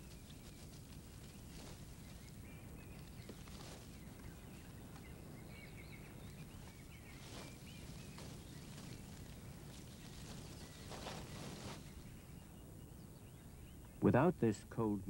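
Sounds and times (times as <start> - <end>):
distant warbling birdsong: 0.0 - 15.0
steady low hiss: 0.0 - 15.0.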